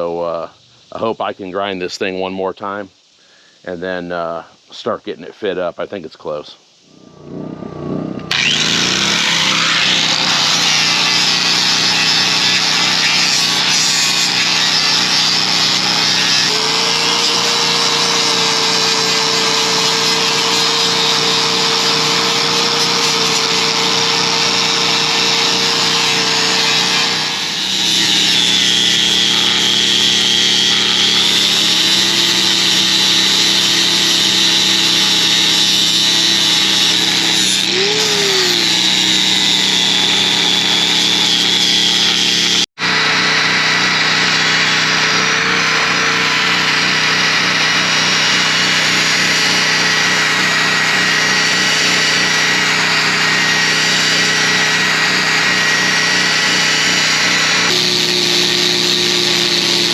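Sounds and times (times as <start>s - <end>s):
power grinder grinding metal: 6.9s - 59.9s.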